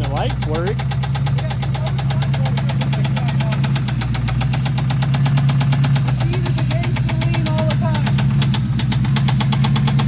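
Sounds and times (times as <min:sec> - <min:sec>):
car engine knocking: 0:00.0 - 0:10.0.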